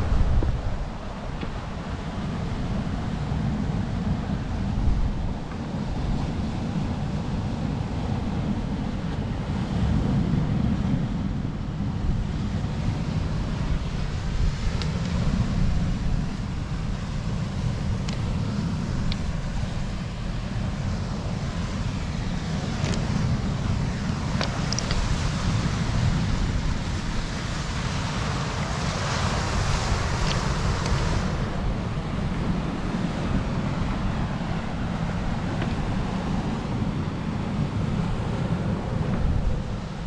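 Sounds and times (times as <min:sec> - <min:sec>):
surf on stony shore: 0:00.0 - 0:40.0
wind buffeting microphone: 0:00.0 - 0:40.0.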